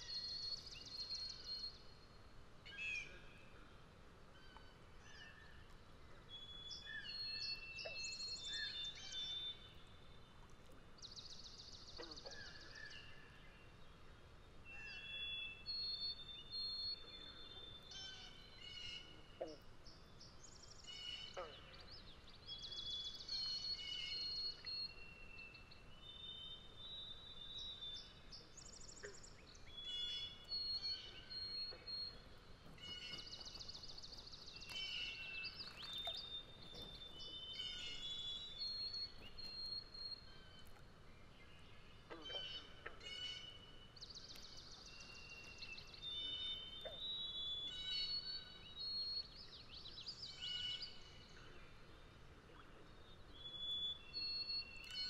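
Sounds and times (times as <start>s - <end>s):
faint outdoor background: 0.0s - 55.0s
songbirds singing: 0.0s - 55.0s.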